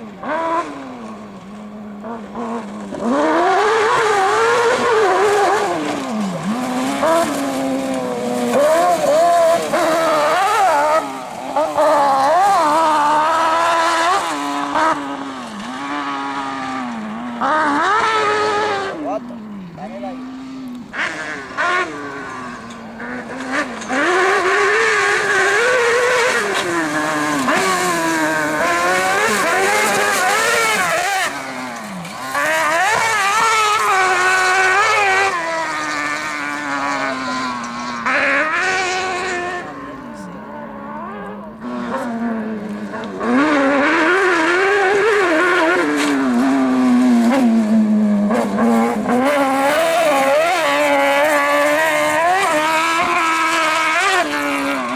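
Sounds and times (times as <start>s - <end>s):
rally car engine revving: 0.0s - 54.9s.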